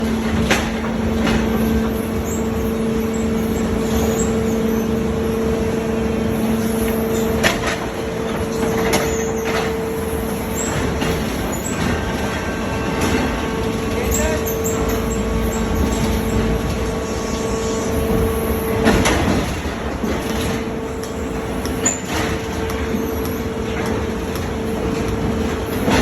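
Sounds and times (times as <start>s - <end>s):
loader machine hum: 0.0s - 26.0s
low machine hum: 0.0s - 26.0s.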